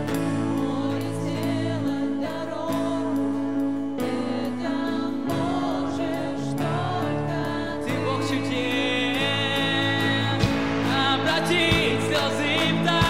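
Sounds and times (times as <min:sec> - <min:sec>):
band playing held chords: 0:00.0 - 0:13.0
person singing: 0:00.0 - 0:13.0.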